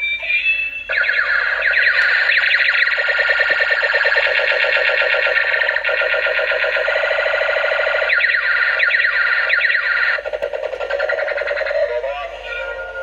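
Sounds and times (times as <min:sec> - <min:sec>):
warbling electronic siren effect: 0:00.3 - 0:13.0.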